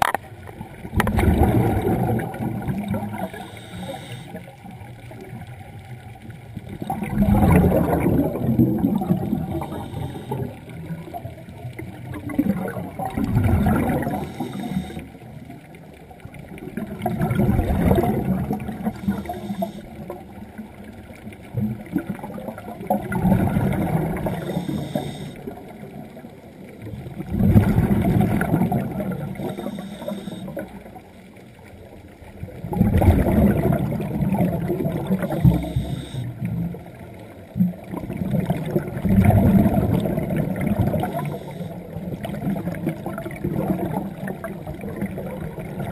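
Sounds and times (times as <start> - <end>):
underwater exhaled air bubbling: 0.0 - 45.9.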